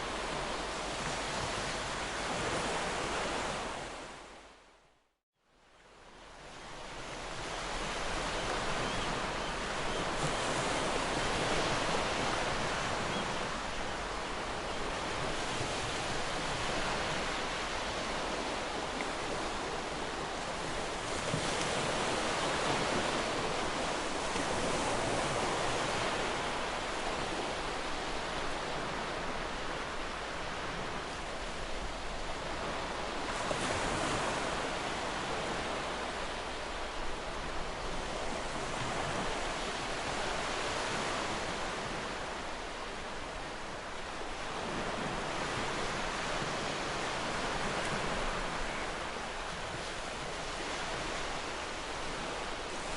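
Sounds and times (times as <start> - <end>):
ocean waves breaking on beach: 0.0 - 4.7, 5.8 - 52.9.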